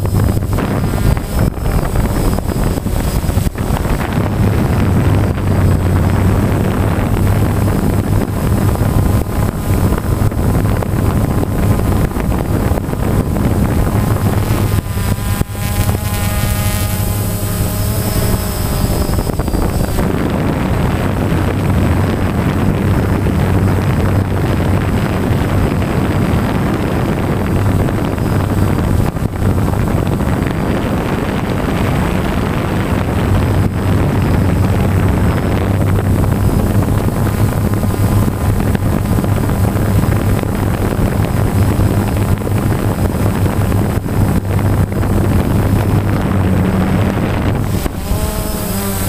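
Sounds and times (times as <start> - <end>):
drone propellers humming: 0.0 - 49.0.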